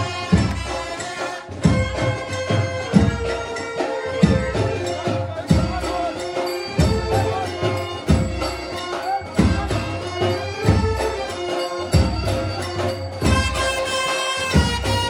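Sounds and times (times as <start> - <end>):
deep drum beats: 0.0 - 15.0
jingling metallic percussion: 0.0 - 15.0.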